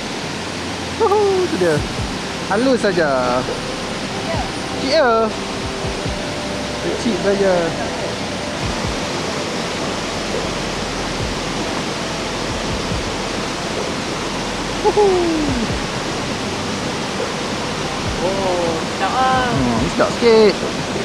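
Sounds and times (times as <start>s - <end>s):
stream running: 0.0s - 21.0s
waterfall rushing: 0.0s - 21.0s.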